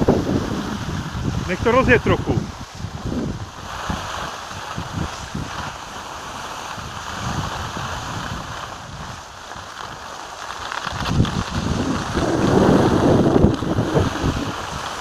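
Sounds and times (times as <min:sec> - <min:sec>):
wind buffeting microphone: 0:00.0 - 0:10.1, 0:10.8 - 0:15.0
skis sliding over snow: 0:00.0 - 0:15.0.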